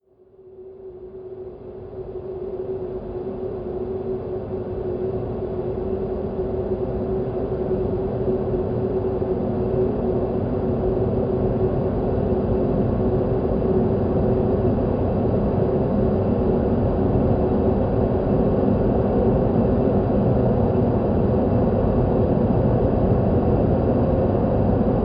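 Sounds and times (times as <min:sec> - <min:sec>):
howling wind: 0:00.6 - 0:25.0.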